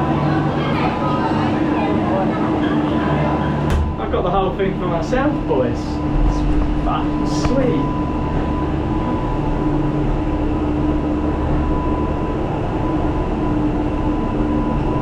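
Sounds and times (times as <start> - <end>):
cable car cabin rumble: 0.0 - 14.2
constant hum: 0.0 - 15.0.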